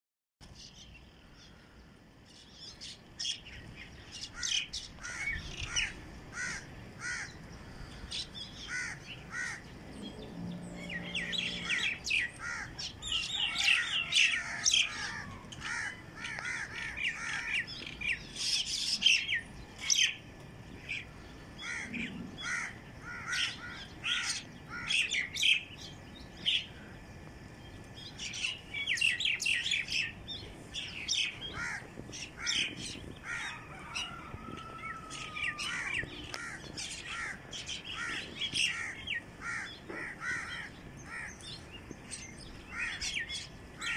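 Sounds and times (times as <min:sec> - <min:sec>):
birds chirping and calling: 0:00.4 - 0:43.9.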